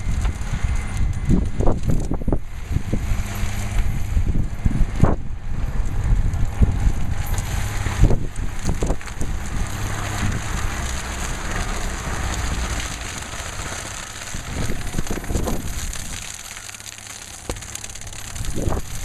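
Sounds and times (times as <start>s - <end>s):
debris crunching and crackling: 0.0s - 19.0s
machine engine running: 0.0s - 19.0s.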